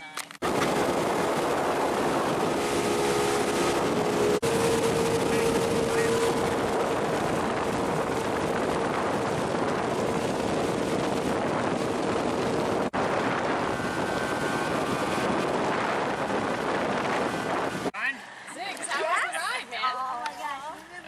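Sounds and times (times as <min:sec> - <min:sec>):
motorboat motor drone: 0:00.4 - 0:17.9
wind noise on microphone: 0:00.4 - 0:17.9.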